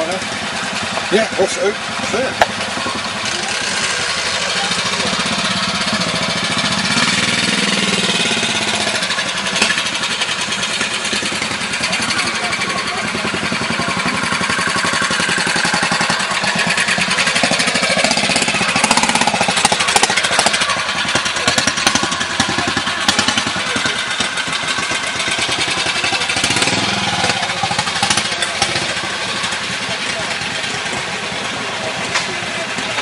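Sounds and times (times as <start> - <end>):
motorcycle engine running hard: 0.0 - 33.0.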